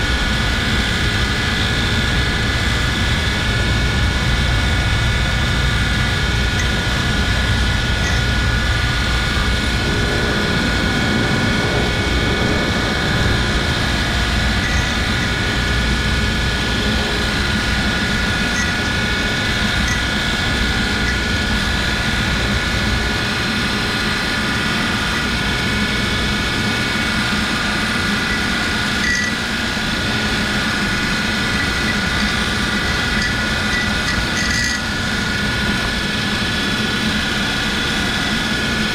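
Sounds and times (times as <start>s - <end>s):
machine drone with high whine: 0.0s - 38.9s.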